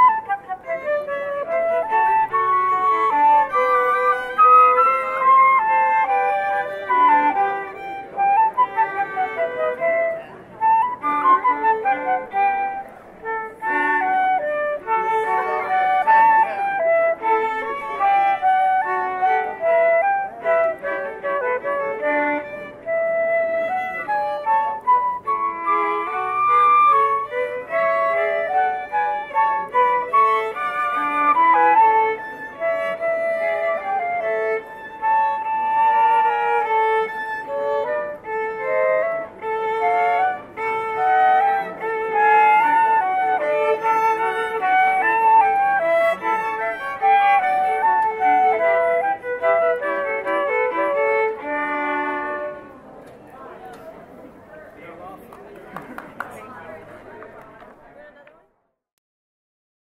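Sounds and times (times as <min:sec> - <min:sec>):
flute: 0:00.0 - 0:54.3
violins: 0:00.0 - 0:58.3.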